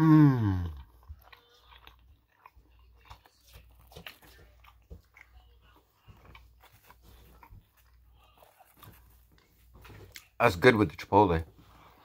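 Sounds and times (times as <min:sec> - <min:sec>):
person chewing food: 0:00.0 - 0:10.6, 0:11.4 - 0:12.0.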